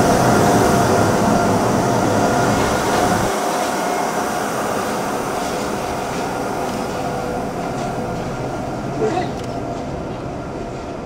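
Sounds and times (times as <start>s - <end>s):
electric train whine: 0.0s - 11.0s
train running rumble: 0.0s - 11.0s.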